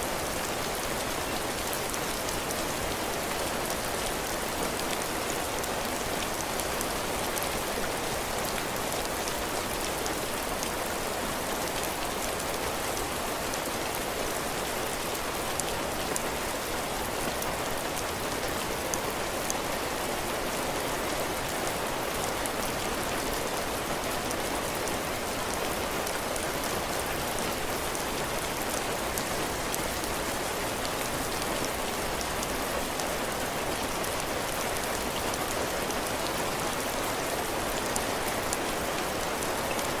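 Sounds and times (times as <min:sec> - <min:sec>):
heavy rain on roof and ground: 0:00.0 - 0:40.0.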